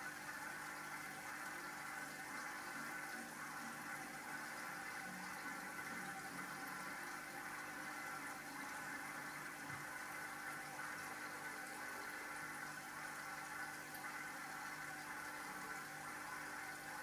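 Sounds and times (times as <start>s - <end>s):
water trickling and bubbling: 0.0s - 17.0s.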